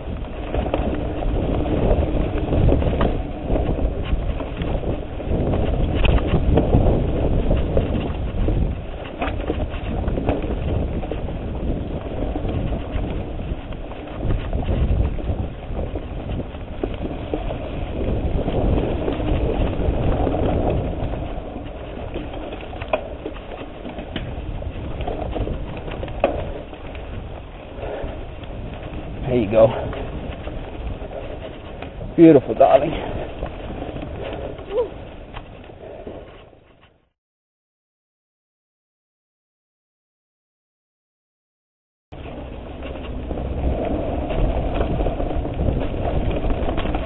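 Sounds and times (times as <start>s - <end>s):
tyres rumbling over dirt: 0.0s - 37.0s, 42.1s - 47.0s
bike rattles and knocks: 0.0s - 37.1s, 42.1s - 47.0s
wind on microphone: 0.0s - 37.1s, 42.1s - 47.0s.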